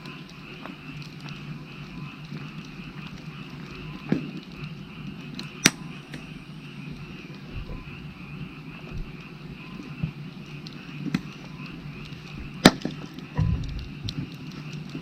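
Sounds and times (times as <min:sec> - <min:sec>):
frogs croaking chorus: 0:00.0 - 0:15.0
wood fire crackling and popping: 0:00.0 - 0:15.0.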